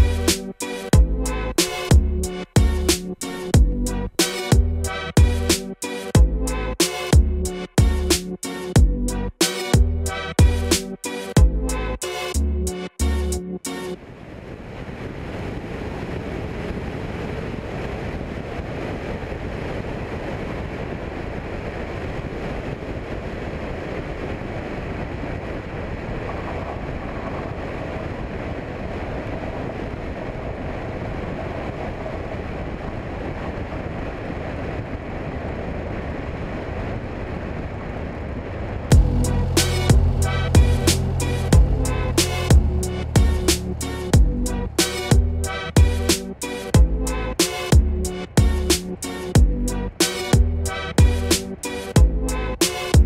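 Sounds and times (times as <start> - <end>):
aircraft cabin engine noise: 0.0 - 53.0.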